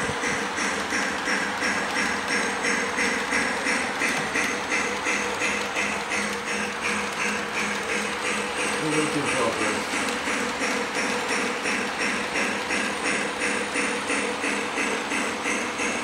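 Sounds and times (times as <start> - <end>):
model steam train running: 0.0 - 16.0.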